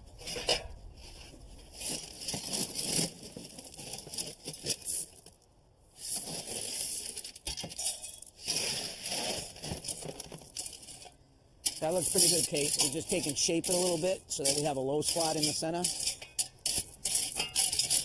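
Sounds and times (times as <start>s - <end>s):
gravel rattling and crunching: 0.0s - 18.0s.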